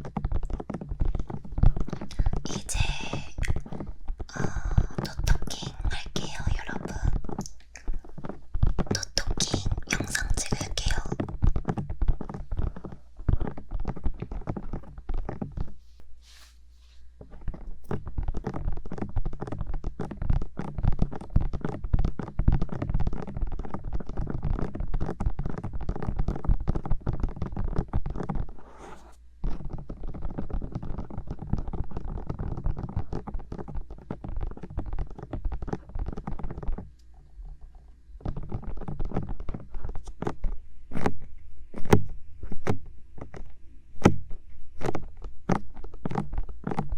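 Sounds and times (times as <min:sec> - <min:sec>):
fingers tapping and rubbing microphone: 0:00.0 - 0:46.9.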